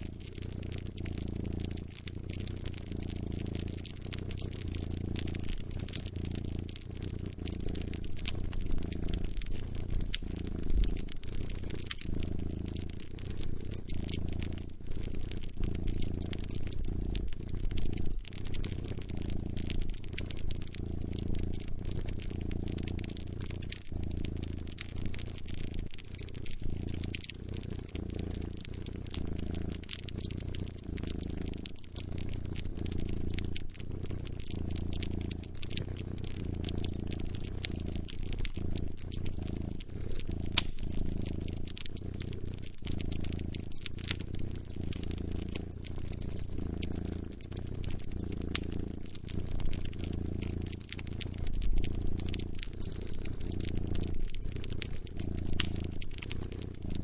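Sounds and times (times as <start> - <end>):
cat purring: 0.0 - 57.0
wood fire crackling and popping: 0.0 - 57.0.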